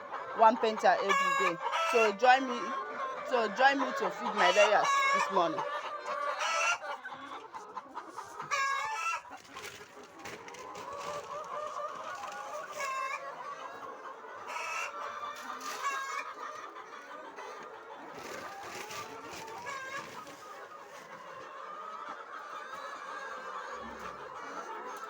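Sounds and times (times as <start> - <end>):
flock of hens clucking: 0.0 - 25.0.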